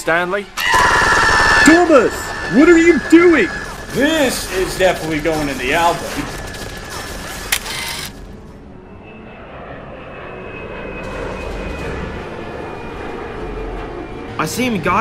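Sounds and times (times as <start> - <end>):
jet plane engine whine: 0.4 - 15.0.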